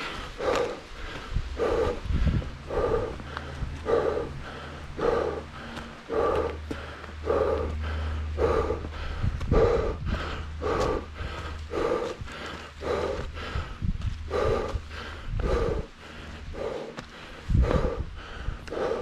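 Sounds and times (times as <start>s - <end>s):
low rumble: 0.0s - 19.0s
person breathing hard: 0.0s - 19.0s.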